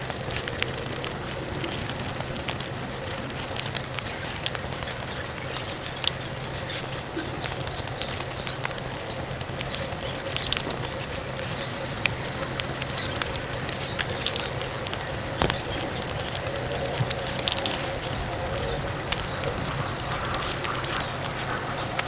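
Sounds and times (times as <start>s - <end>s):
crackling chewing: 0.0s - 22.0s.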